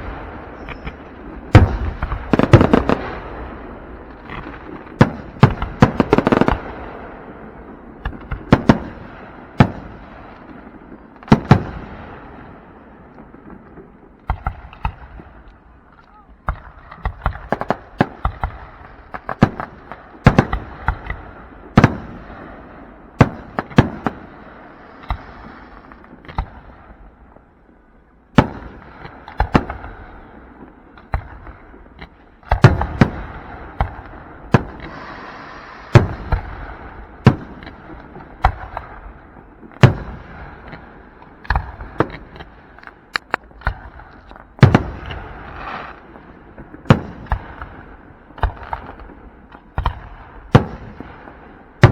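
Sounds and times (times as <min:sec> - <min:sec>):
fireworks bangs: 0:00.0 - 0:27.1, 0:28.3 - 0:51.9.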